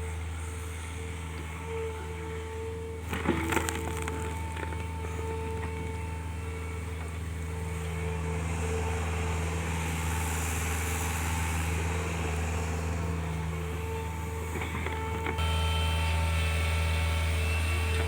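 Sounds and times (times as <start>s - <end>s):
diesel engine drone: 0.0s - 18.0s
high engine whine: 0.0s - 18.0s.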